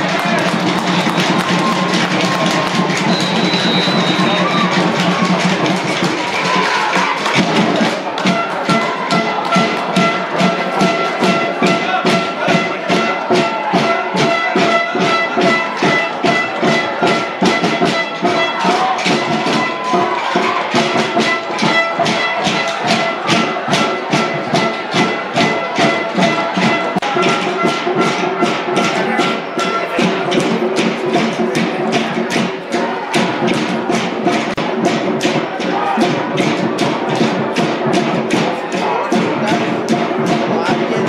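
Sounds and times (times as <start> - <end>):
fast percussion beat: 0.0 - 41.0.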